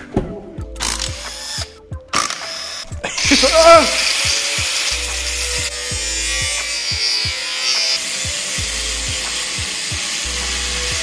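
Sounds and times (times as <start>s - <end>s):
music with thumping beat: 0.0s - 11.0s
angle grinder cutting metal: 0.8s - 11.0s.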